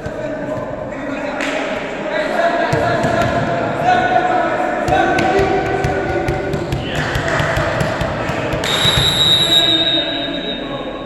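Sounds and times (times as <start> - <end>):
voices shouting in echoing hall: 0.0 - 11.0.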